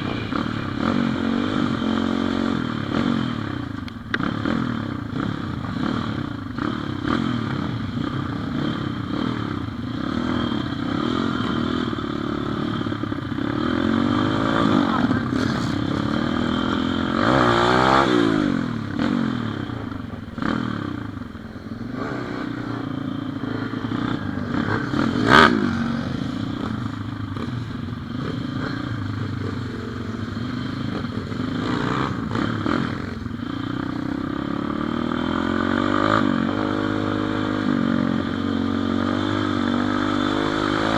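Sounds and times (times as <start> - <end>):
pit bike engine running: 0.0 - 40.9.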